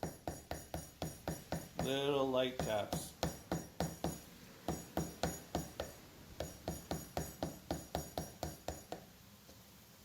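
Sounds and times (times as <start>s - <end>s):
wood chisel tapping: 0.0s - 2.0s, 2.6s - 9.1s.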